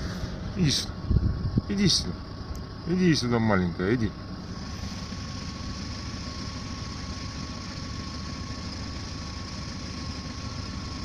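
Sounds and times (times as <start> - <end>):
car engine idling: 0.0 - 11.0
thin steady whine: 0.0 - 11.0.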